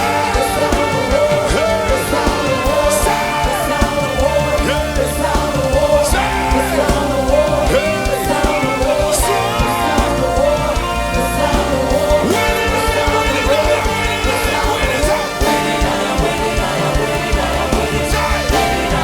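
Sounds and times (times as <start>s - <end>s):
band with steady drum beat: 0.0s - 19.0s
person singing: 0.0s - 19.0s.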